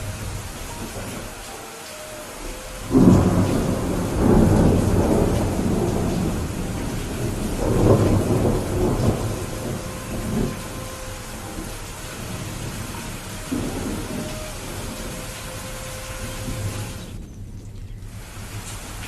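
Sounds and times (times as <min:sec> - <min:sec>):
thunderclap rumbling: 0:00.0 - 0:01.6, 0:02.2 - 0:17.8
steady rain: 0:00.0 - 0:19.0.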